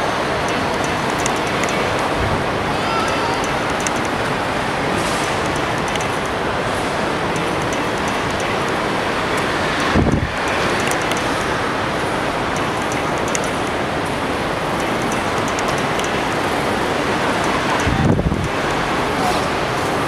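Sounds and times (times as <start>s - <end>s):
busy airport terminal noise: 0.0s - 20.0s.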